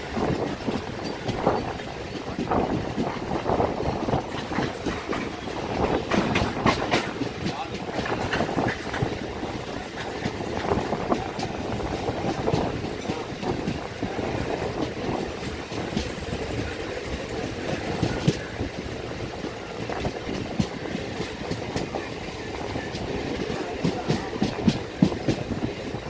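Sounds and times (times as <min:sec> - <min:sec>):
electric train running rumble: 0:00.0 - 0:26.0
wheels clicking on rails: 0:00.0 - 0:26.0.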